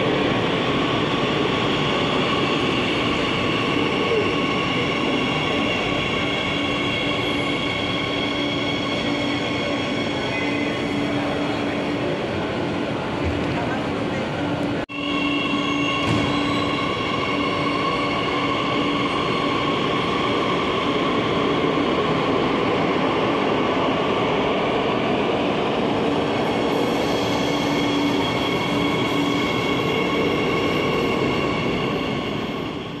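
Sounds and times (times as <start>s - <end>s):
train running noise: 0.0s - 33.0s.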